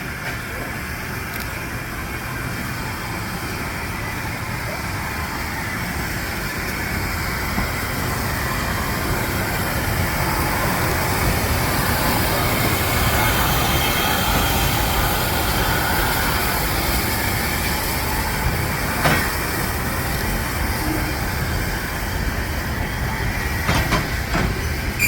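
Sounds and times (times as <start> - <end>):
train rumble and hiss: 0.0 - 25.0.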